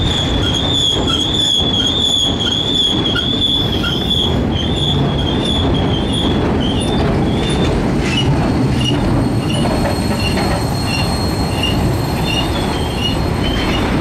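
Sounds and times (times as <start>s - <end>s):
high wheel squeals: 0.0s - 7.6s, 8.2s - 13.9s
train wheels rumbling on rails: 0.0s - 14.0s.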